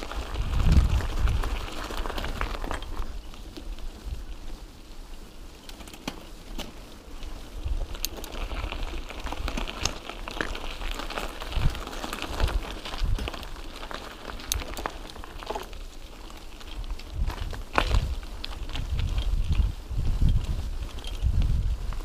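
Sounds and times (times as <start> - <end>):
bike clicking and rattling: 0.0 - 22.0
bike tyres crunching on gravel: 0.0 - 22.0.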